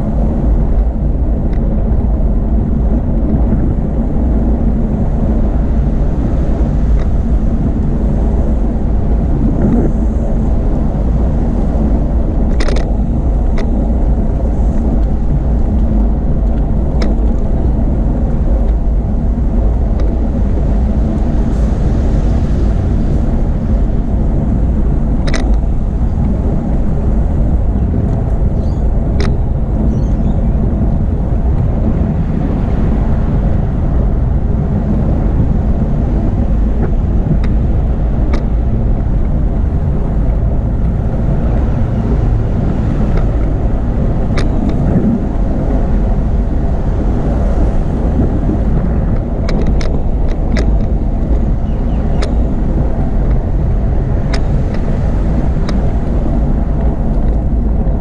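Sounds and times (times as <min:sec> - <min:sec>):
bicycle road rumble: 0:00.0 - 0:58.0
wind buffeting microphone: 0:00.0 - 0:58.0.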